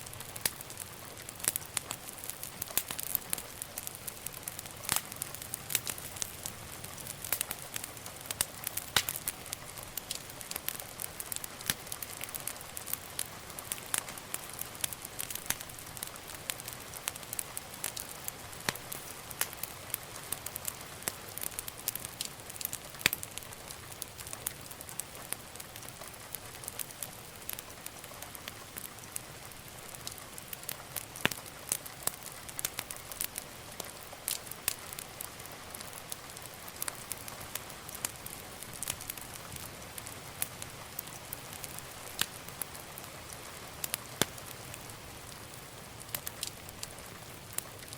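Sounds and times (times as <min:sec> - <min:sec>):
sharp pops and snaps of fire: 0:00.0 - 0:47.9
wood fire crackling: 0:00.0 - 0:47.9.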